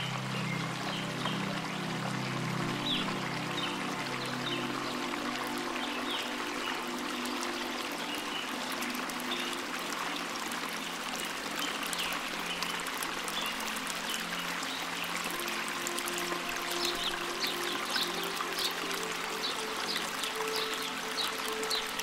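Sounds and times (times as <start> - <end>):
soft low music notes: 0.0 - 22.0
waterfall splashing into pool: 0.8 - 22.0.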